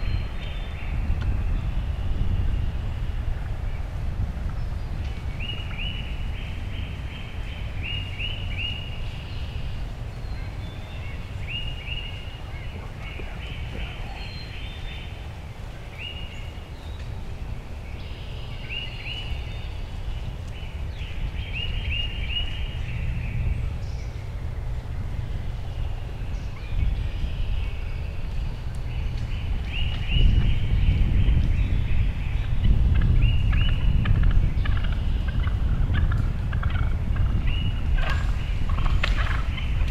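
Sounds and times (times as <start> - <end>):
low rumble: 0.0 - 39.9
songbird singing: 0.0 - 39.9.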